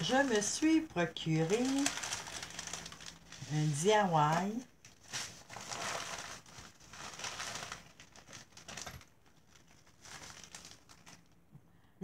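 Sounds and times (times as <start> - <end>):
plastic bags crinkling: 0.0 - 11.5.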